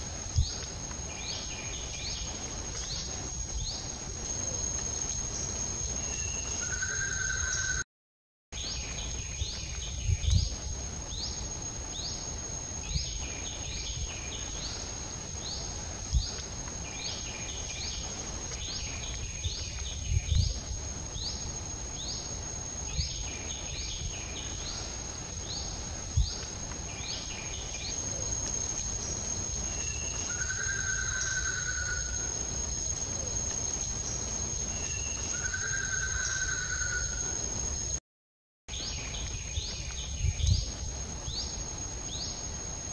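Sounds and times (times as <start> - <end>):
insect drone: 0.0 - 7.8, 8.6 - 38.0, 38.7 - 42.9.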